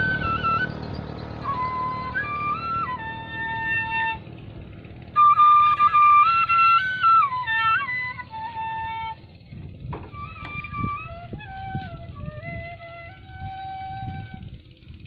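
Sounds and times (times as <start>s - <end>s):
bamboo flute melody: 0.0s - 14.9s.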